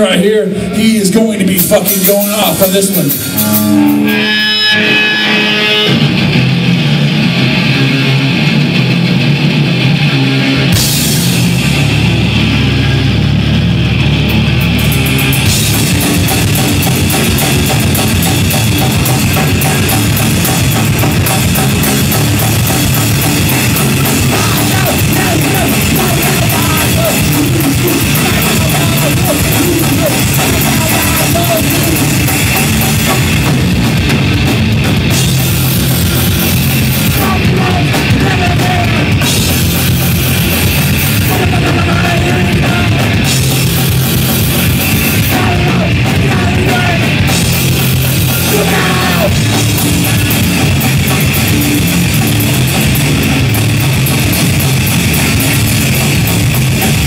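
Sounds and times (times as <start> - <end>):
bass guitar: 0.0 - 57.0
distorted electric guitars: 0.0 - 57.0
drum kit: 0.0 - 57.0.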